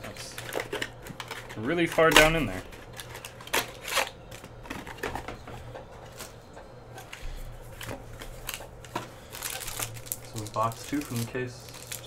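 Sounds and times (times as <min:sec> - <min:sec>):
paper packing rustling: 0:00.0 - 0:06.4, 0:07.0 - 0:12.0.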